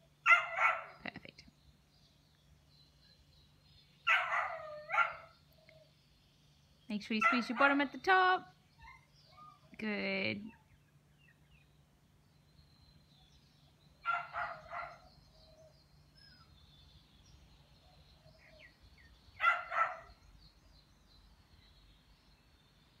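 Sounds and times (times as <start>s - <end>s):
faint high bird chirps: 0.0s - 23.0s.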